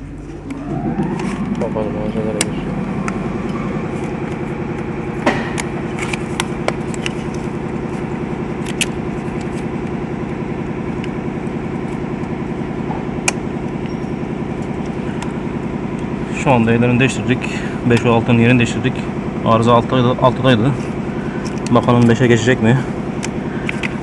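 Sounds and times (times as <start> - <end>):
car engine idling with misfire: 0.0 - 24.0.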